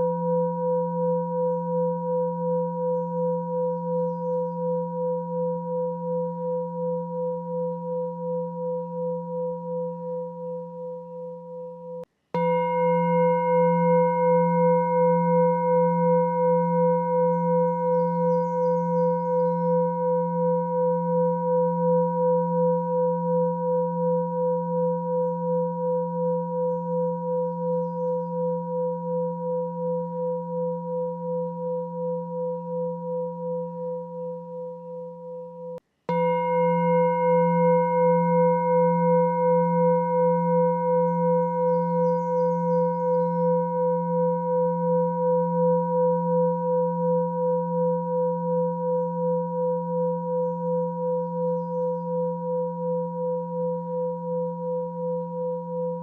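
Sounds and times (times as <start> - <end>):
bell-like meditation tone: 0.0 - 56.0.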